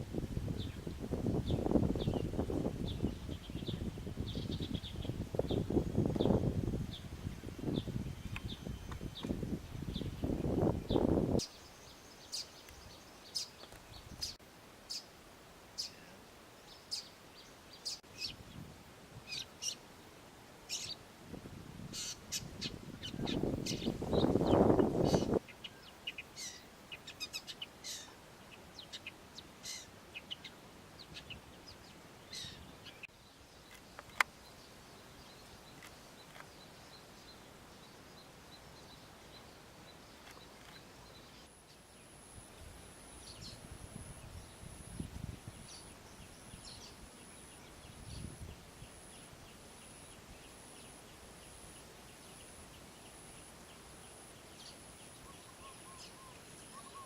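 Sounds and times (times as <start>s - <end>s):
birds chirping: 0.5s - 15.1s, 21.9s - 43.6s, 44.2s - 57.0s.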